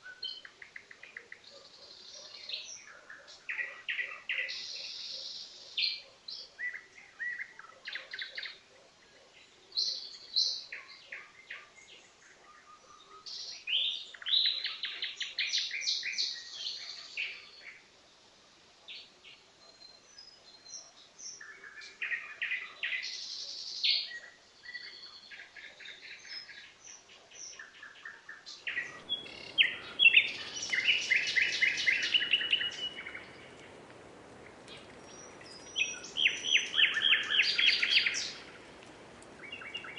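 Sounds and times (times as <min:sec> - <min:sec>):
nightingale singing: 0:00.0 - 0:17.9, 0:18.8 - 0:39.9
steady background hiss: 0:00.0 - 0:39.9.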